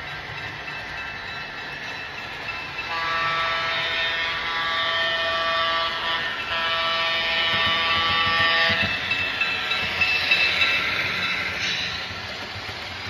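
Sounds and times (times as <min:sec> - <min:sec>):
model locomotive chime horn: 0:00.9 - 0:12.2.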